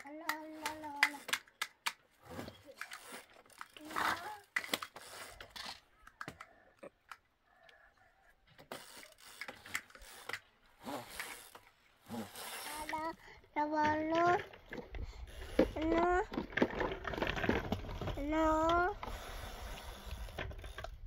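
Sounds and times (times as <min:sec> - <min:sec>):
plastic toys clicking and knocking: 0:00.0 - 0:07.3, 0:08.5 - 0:11.7, 0:12.7 - 0:19.2.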